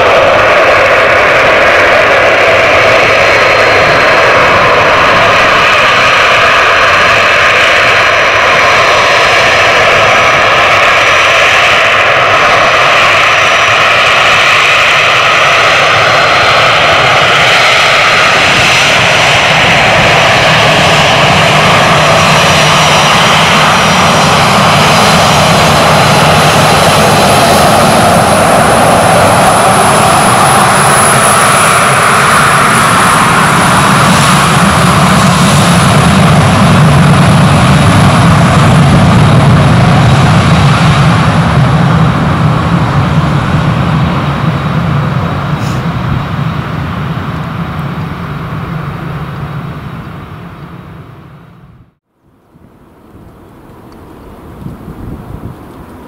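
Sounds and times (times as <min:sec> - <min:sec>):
jet engine whine: 0:00.0 - 0:56.0.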